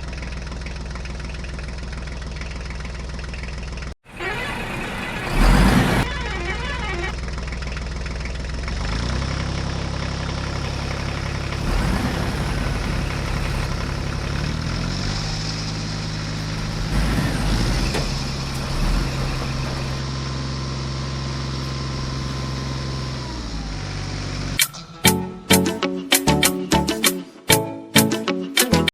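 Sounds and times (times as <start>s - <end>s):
heavy diesel engine running: 0.0s - 25.6s.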